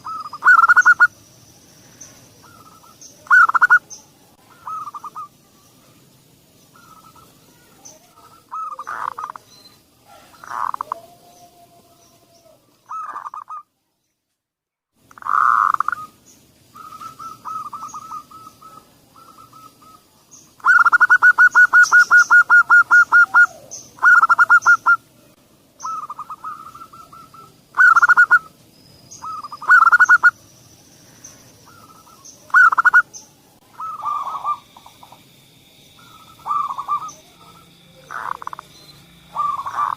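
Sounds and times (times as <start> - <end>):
doves cooing: 0.0 - 1.3, 2.0 - 5.7, 6.3 - 13.7, 15.1 - 25.1, 25.8 - 39.9.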